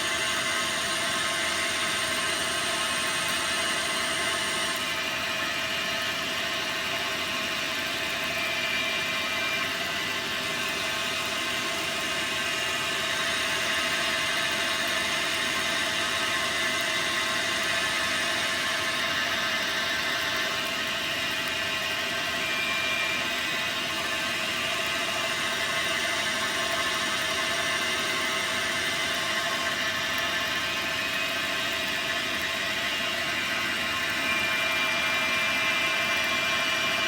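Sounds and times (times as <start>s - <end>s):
lathe running with whining tones: 0.0s - 37.0s.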